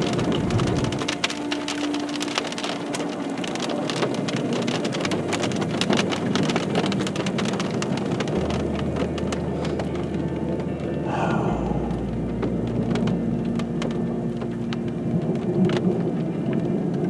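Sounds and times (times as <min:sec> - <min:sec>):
rain on car roof: 0:00.0 - 0:17.0.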